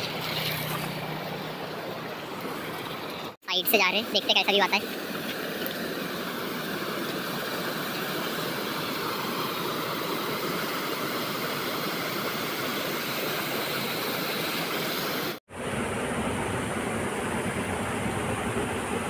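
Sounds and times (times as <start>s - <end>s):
water rushing over weir: 0.0s - 19.0s.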